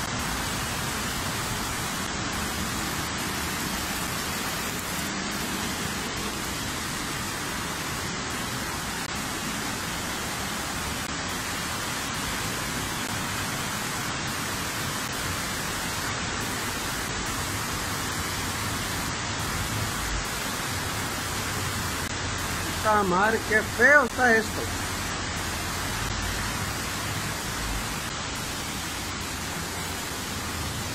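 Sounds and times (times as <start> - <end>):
fast-flowing floodwater: 0.0 - 30.9
heavy rain: 0.0 - 30.9.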